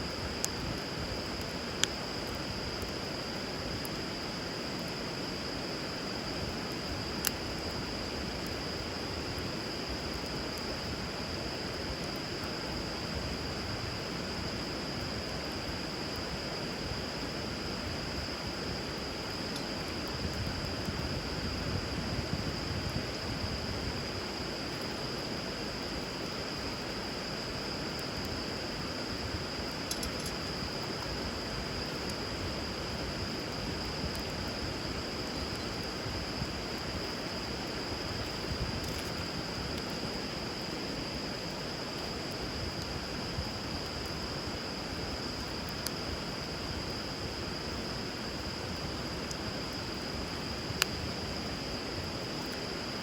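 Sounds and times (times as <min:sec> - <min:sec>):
high insect trill: 0:00.0 - 0:53.0
wood fire crackling: 0:00.1 - 0:24.0, 0:27.8 - 0:47.4.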